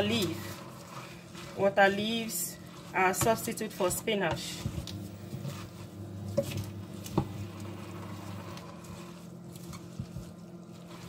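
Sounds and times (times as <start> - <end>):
spatula stirring leaves: 0.0 - 11.0.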